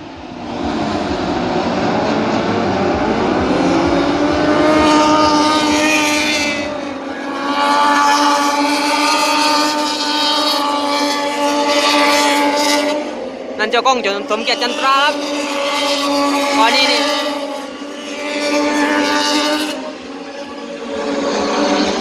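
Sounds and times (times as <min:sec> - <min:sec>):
racing motorcycles revving past: 0:00.0 - 0:22.0.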